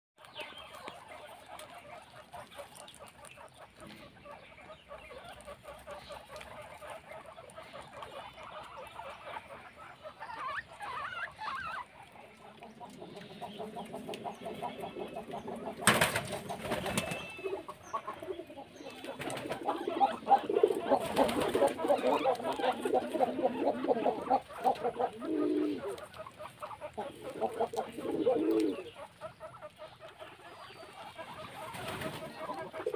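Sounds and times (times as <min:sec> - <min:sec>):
guinea pigs squeaking: 0:00.2 - 0:32.9.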